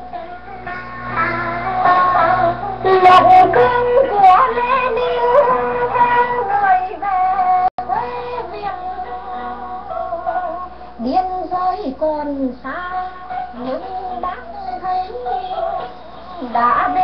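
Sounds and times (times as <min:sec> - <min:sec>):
music with singing on old radio: 0:00.0 - 0:17.0.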